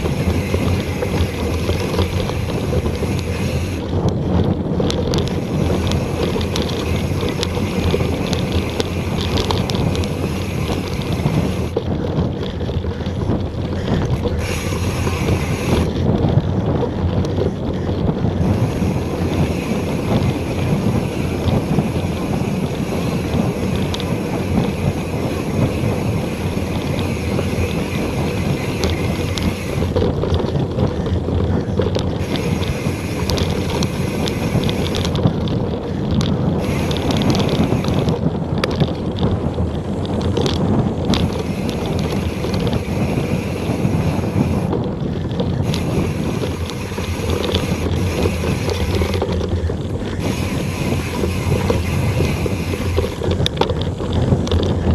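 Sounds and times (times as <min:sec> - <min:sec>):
bike tyres rumbling on dirt: 0:00.0 - 0:54.9
wind noise on microphone: 0:00.0 - 0:54.9.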